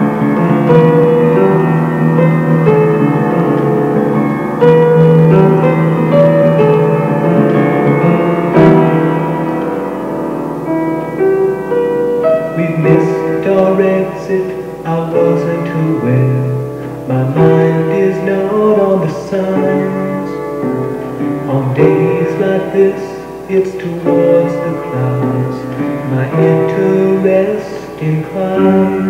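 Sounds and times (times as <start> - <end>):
held keyboard chords: 0.0 - 29.0.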